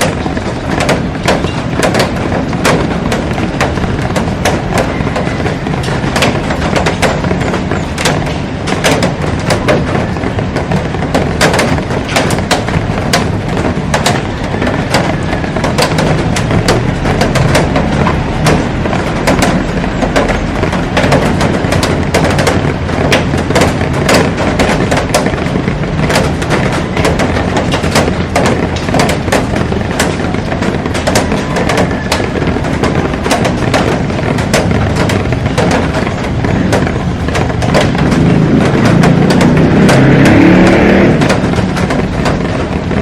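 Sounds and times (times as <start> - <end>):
raindrops cracking on glass: 0.0 - 43.0.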